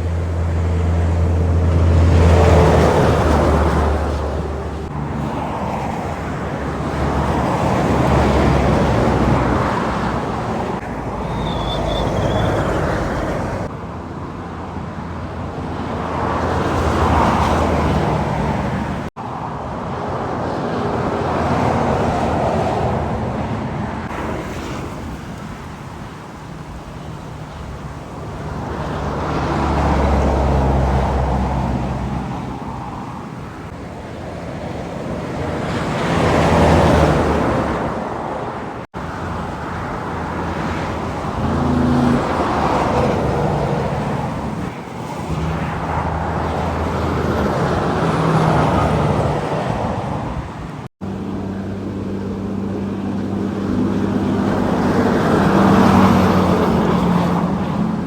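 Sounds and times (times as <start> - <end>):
trucks passing on highway: 0.0 - 58.0.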